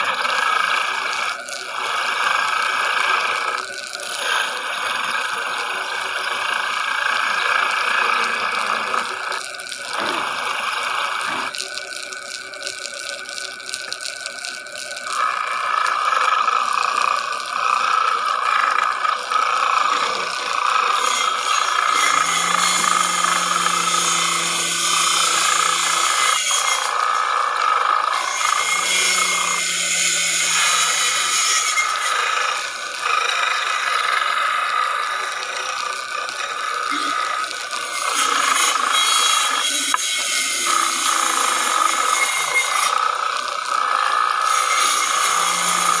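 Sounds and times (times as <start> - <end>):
power tool cutting wood: 0.0 - 12.2, 14.8 - 46.0.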